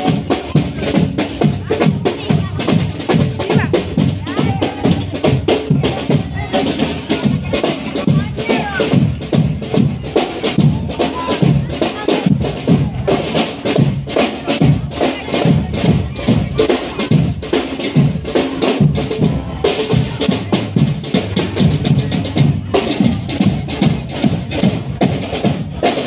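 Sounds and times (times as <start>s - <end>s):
marching drum band playing: 0.0s - 26.0s.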